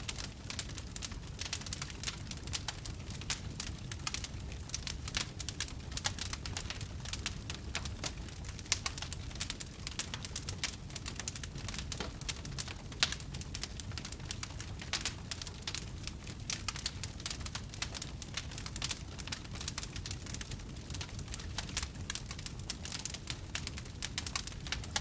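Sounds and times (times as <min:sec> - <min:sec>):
campfire crackling: 0:00.0 - 0:25.0
loud fire pops: 0:00.0 - 0:25.0.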